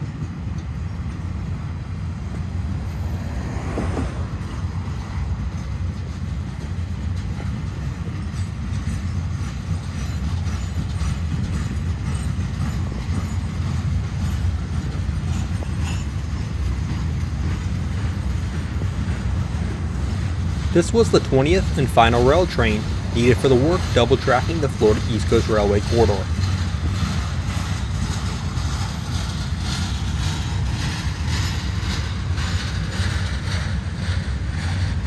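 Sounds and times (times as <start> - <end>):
train rumbling past: 0.0 - 35.0
train wheels ticking over track: 0.0 - 35.0.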